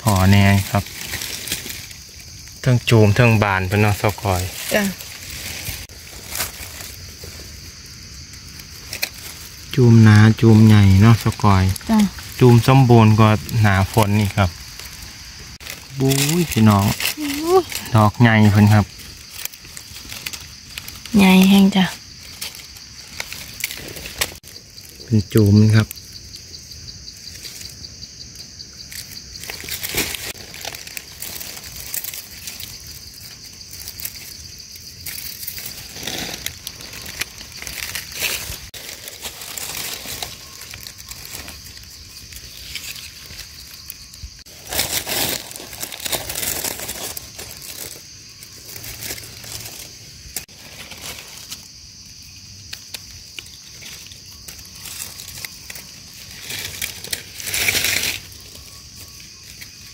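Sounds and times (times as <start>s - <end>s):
dry leaves crunching: 0.0s - 59.9s
insects droning: 0.0s - 59.9s.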